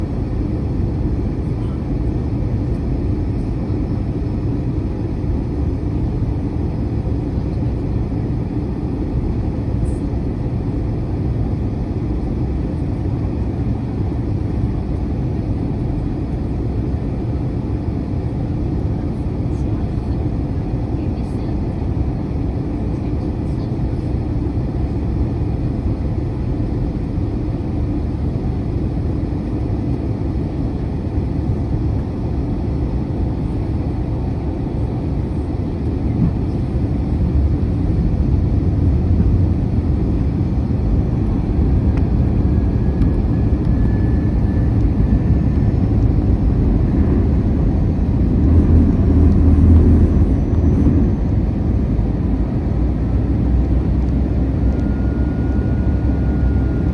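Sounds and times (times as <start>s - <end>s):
airplane cabin engine roar: 0.0s - 56.9s.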